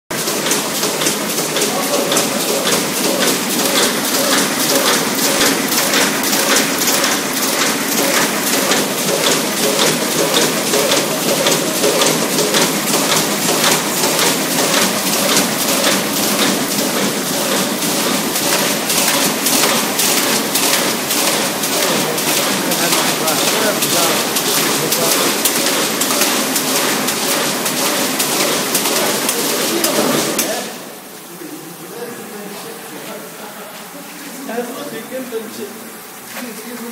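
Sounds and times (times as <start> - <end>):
punching machine clatter: 0.1 - 30.7
steady machine hum: 0.1 - 36.8.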